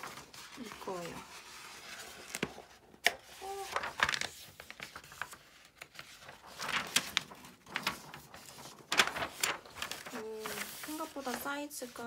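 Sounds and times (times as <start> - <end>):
stiff paper rustling and crackling: 0.0 - 12.0.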